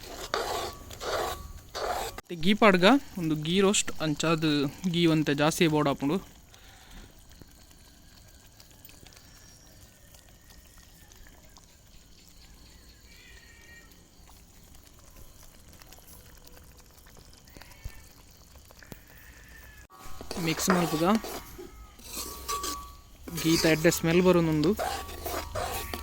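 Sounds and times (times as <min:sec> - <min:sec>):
soft sizzle in a pan: 0:00.0 - 0:26.0.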